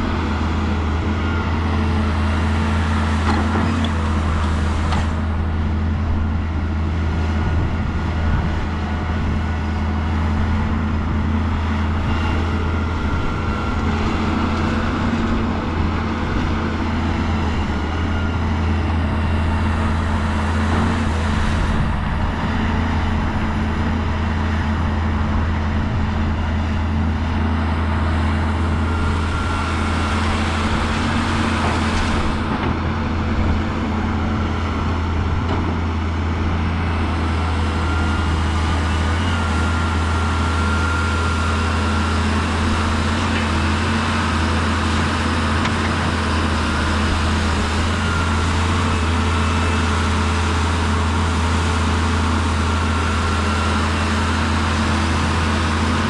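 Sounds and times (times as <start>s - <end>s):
heavy machinery diesel engine drone: 0.0s - 56.0s.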